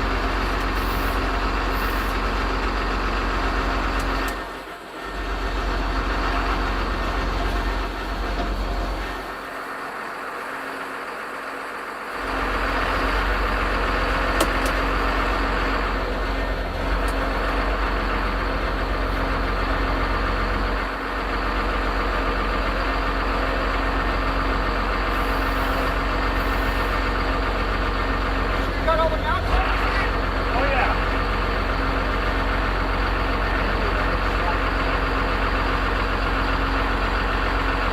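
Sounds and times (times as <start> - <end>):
engine idling rumble: 0.0 - 37.9.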